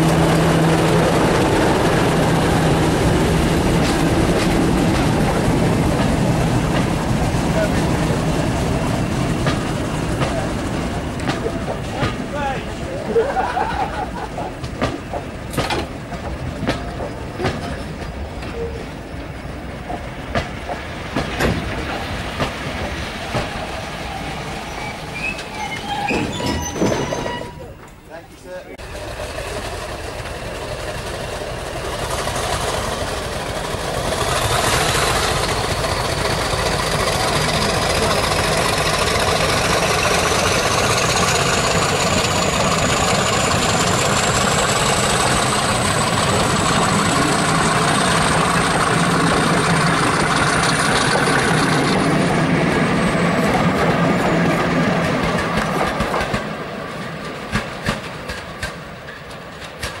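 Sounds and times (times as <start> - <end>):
diesel locomotive accelerating: 0.0 - 60.0
wheels clicking over rail joints: 2.1 - 23.8, 28.8 - 60.0.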